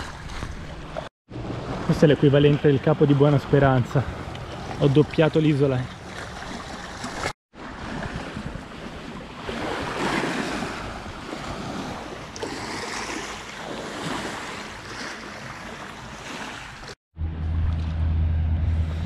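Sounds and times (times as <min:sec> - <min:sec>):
water lapping around kayak: 0:00.0 - 0:17.0.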